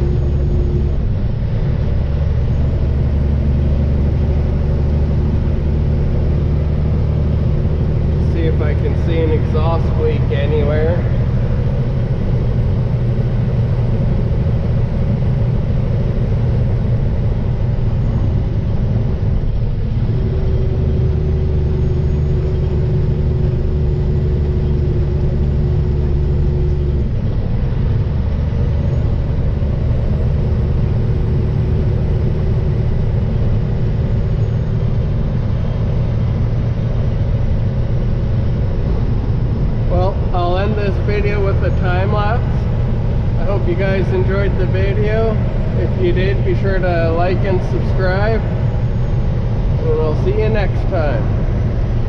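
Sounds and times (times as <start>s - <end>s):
exhaust drone: 0.0s - 52.0s
truck engine and road noise: 0.0s - 52.0s.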